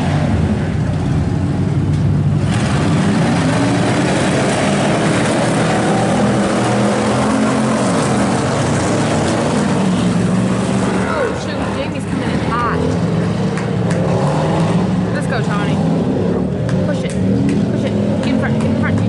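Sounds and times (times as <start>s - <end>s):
race car engines revving: 0.0s - 19.0s.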